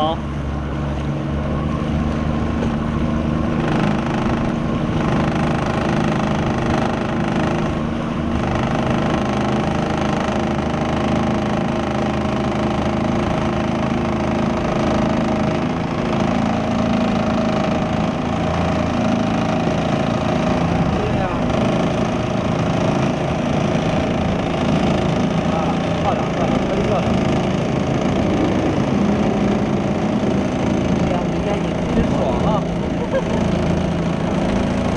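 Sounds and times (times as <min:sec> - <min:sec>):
motorboat engine drone: 0:00.0 - 0:34.9.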